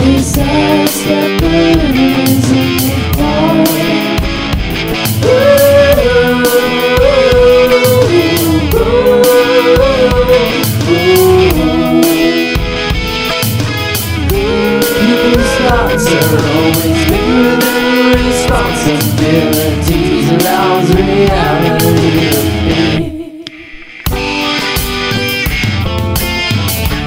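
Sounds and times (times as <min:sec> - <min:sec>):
rock band music: 0:00.0 - 0:27.0
lead guitar bending notes: 0:01.2 - 0:26.9.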